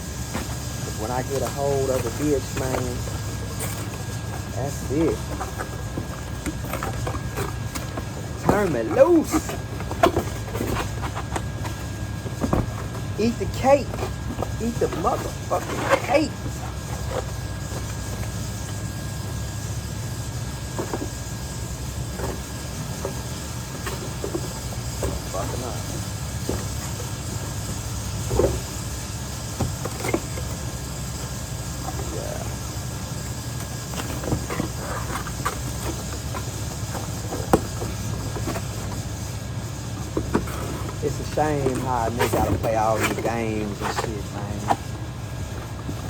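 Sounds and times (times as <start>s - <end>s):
low rumble of machinery: 0.0s - 46.0s.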